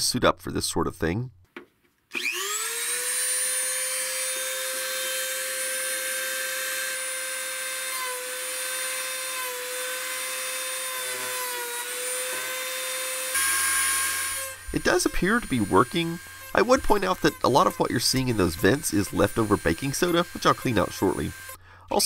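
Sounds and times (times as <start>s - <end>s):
rotary sander whining on plastic: 2.1s - 21.6s.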